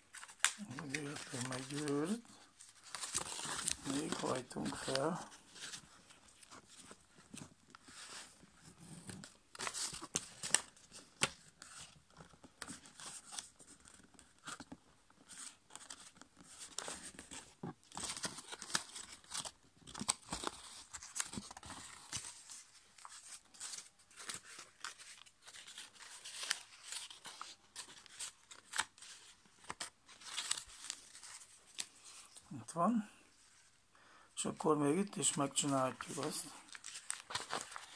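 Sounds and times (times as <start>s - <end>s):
paper folding and crinkling: 0.0s - 33.8s, 34.4s - 37.9s.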